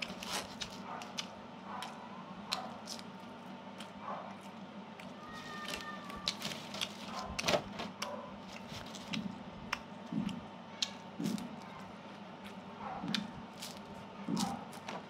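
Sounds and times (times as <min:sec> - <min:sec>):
faint steady hum: 0:00.0 - 0:15.0
person chewing crisp snack: 0:00.0 - 0:15.0.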